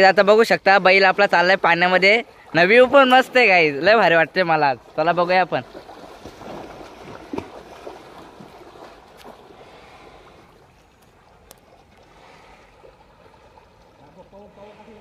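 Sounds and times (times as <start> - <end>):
water sloshing and splashing: 0.6 - 14.8.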